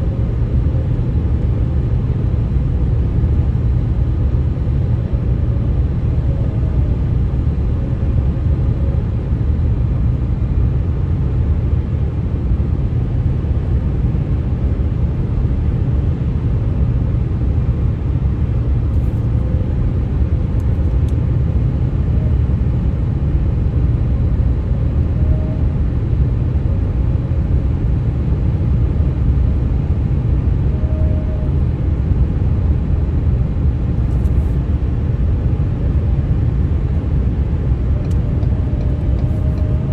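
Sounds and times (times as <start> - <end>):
faint humming road tones: 0.0 - 39.9.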